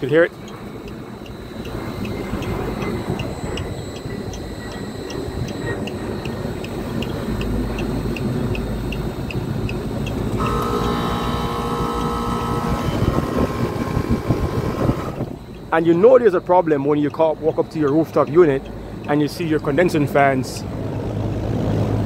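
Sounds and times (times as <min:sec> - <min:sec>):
rooftop unit ticking: 0:00.0 - 0:20.8
compressor humming: 0:00.0 - 0:22.0.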